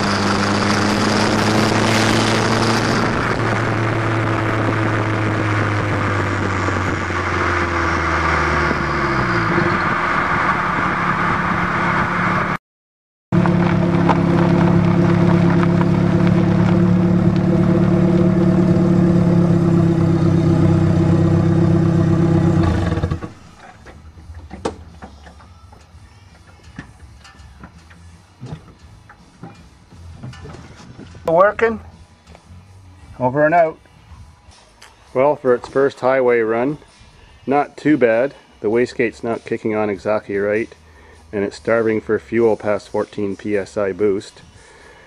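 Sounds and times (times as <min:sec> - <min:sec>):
car engine exhaust drone: 0:00.0 - 0:12.6, 0:13.3 - 0:33.2, 0:36.8 - 0:42.5.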